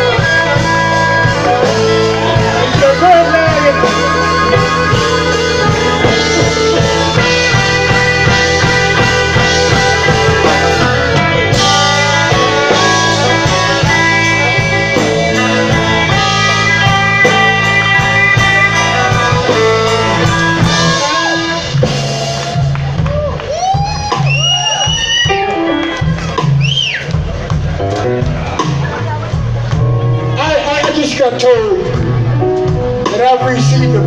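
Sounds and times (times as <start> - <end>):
drum kit beat: 0.0 - 34.0
electric guitar: 0.0 - 34.0.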